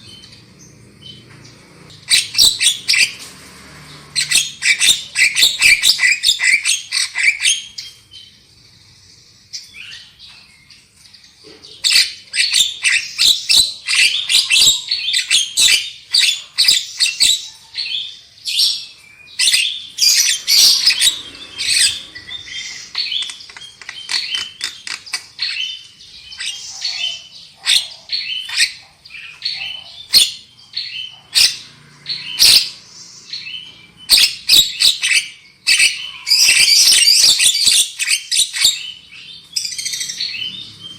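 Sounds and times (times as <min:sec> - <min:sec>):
bird harsh chattering song: 0:03.9 - 0:40.9.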